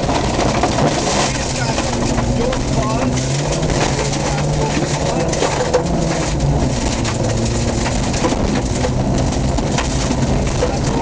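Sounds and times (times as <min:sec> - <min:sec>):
car engine running hard: 0:00.0 - 0:11.0
knocks and rattles in car cabin: 0:00.0 - 0:11.0.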